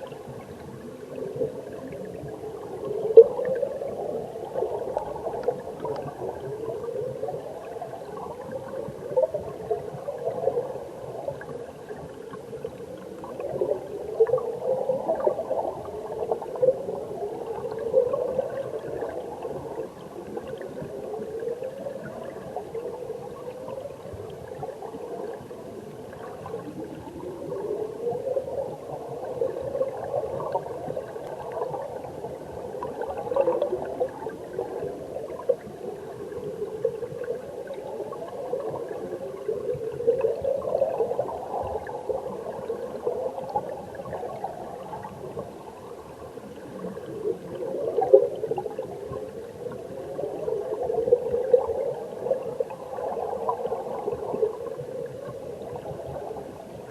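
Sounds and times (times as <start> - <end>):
underwater bubbling and gurgling: 0.0 - 56.9.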